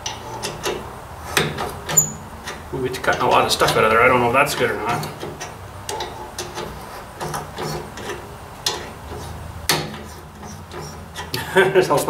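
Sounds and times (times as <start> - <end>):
thread tap clicking and creaking: 0.0 - 3.9, 4.5 - 11.4.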